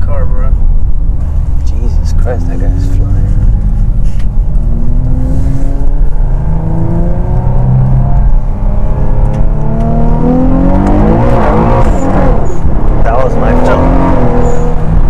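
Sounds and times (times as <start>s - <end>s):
car engine accelerating: 0.0s - 15.0s
road and drivetrain rumble: 0.0s - 15.0s.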